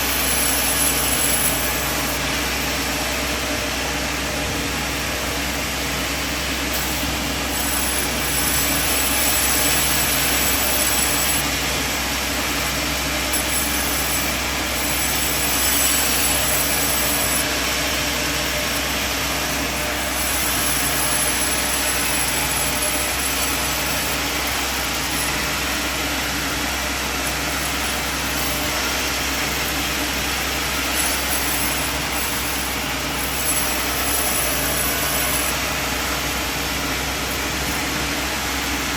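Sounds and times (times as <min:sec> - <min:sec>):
sawmill pulsing hum: 0:00.0 - 0:38.9.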